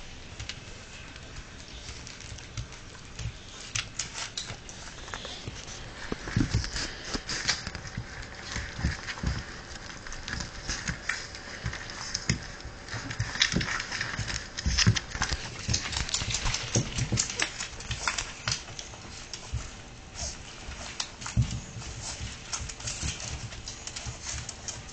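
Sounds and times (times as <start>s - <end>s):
puppy claws clicking on wood floor: 0.3s - 24.9s.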